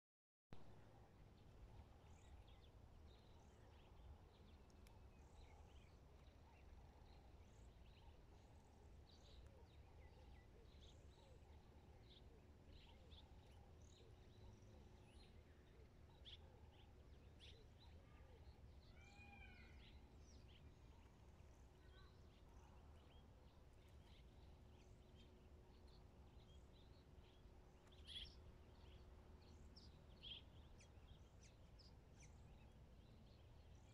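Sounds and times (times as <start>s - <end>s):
faint bird chirps: 1.6s - 33.9s.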